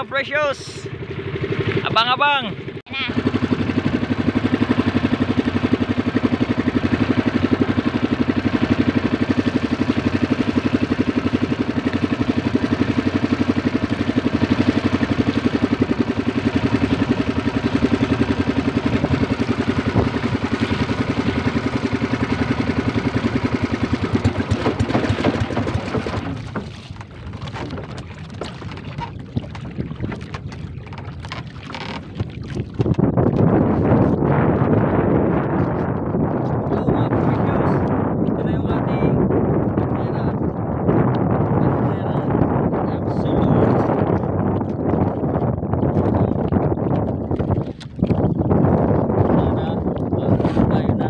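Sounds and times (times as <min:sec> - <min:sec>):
small boat engine puttering: 0:00.0 - 0:51.0
wind noise on microphone: 0:00.0 - 0:51.0.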